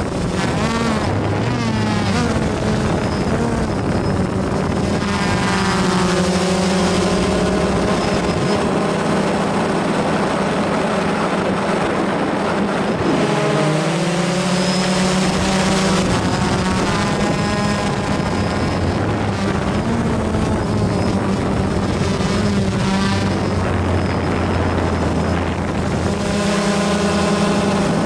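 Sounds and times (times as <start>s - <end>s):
electric motors and propellers: 0.0s - 28.0s.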